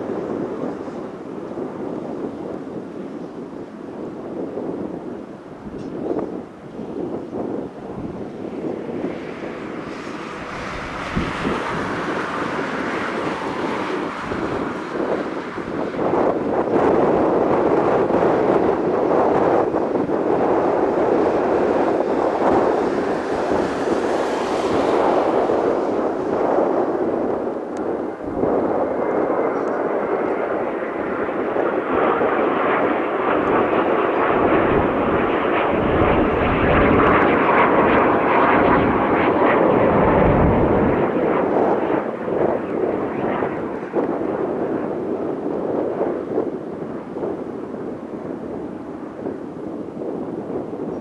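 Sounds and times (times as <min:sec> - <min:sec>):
jet aircraft roar: 0:00.0 - 0:51.0.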